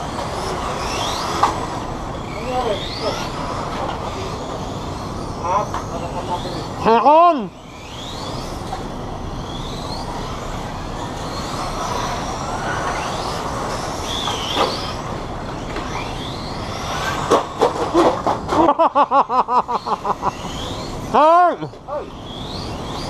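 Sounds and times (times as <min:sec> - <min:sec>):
electric toy car motors whining: 0:00.0 - 0:23.0.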